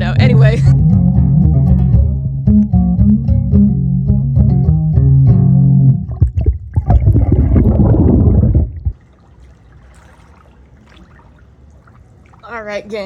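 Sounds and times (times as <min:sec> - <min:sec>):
banjo plucked underwater: 0:00.0 - 0:12.1.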